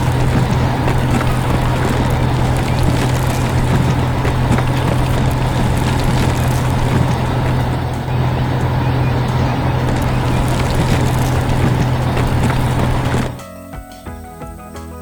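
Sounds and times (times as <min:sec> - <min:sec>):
heavy vehicle engine running: 0:00.0 - 0:13.4.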